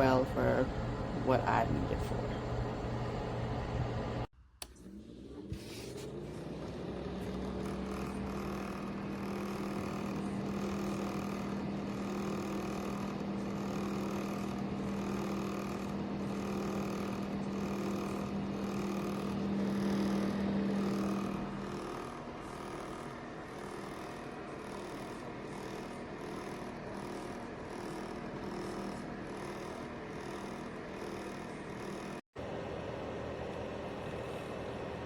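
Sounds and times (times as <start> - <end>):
heater fan motor humming: 0.0 - 35.0.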